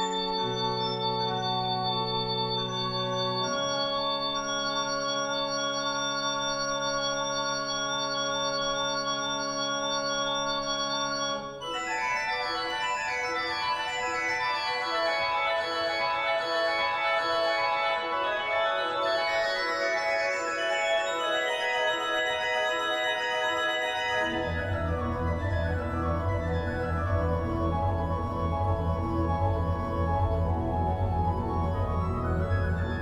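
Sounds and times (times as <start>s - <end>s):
organ chords: 0.0s - 33.0s.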